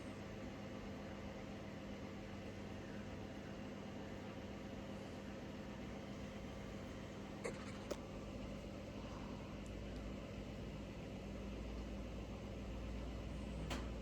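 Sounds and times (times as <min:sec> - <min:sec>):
ceiling fan hum and rumble: 0:00.0 - 0:14.0.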